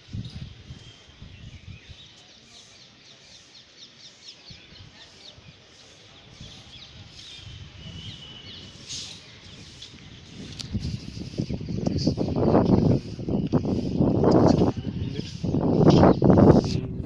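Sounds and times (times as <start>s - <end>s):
birds chirping: 0.1s - 16.6s.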